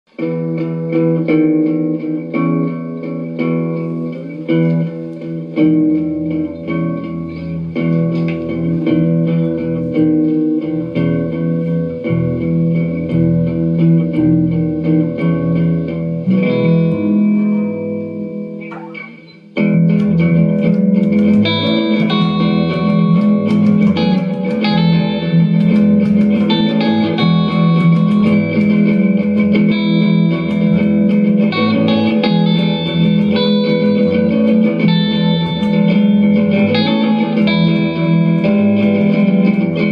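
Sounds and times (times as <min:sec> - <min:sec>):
instrumental guitar music: 0:00.0 - 0:39.9.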